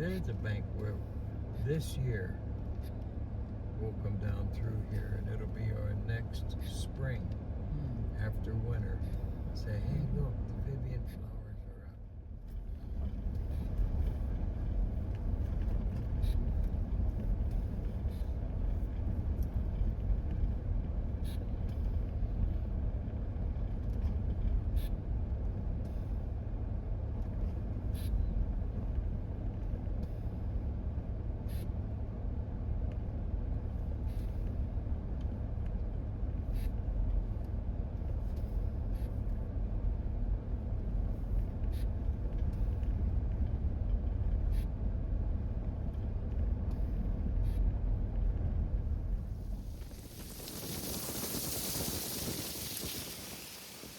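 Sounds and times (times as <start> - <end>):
engine and road rumble: 0.0 - 53.9.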